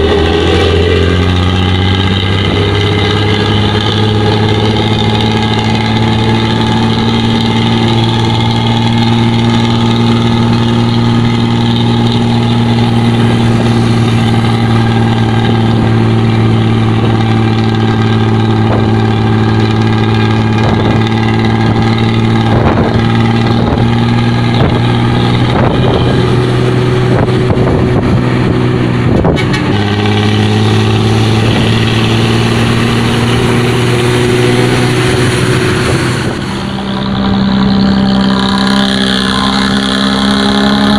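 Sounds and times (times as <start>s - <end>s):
bus diesel engine idling: 0.0s - 40.9s.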